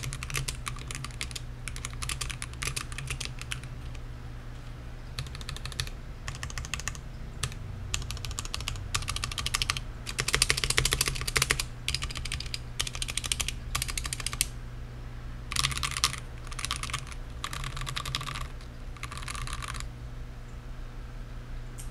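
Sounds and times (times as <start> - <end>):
mechanical keyboard typing: 0.0 - 4.0, 5.2 - 14.5, 15.5 - 19.9.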